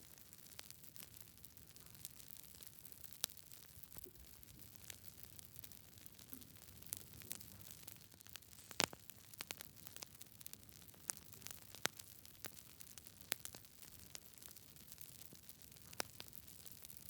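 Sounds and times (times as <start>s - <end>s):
faint steady hiss: 0.0s - 17.0s
wood fire crackling: 0.0s - 17.0s.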